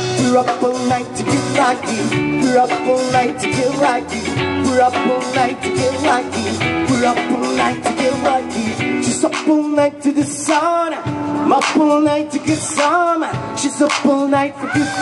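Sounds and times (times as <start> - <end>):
bass guitar: 0.0 - 15.0
drums: 0.0 - 15.0
electric guitar: 0.0 - 15.0
keyboard: 0.0 - 15.0
person singing: 0.0 - 15.0.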